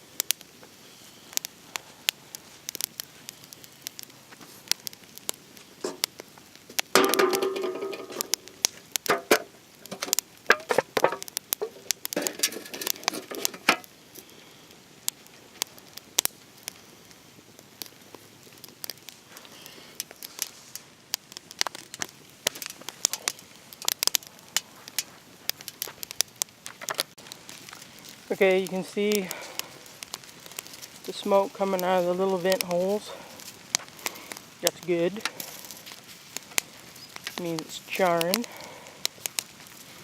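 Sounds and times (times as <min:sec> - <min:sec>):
rain pattering: 0:00.0 - 0:40.0
small fire crackling: 0:00.0 - 0:40.0.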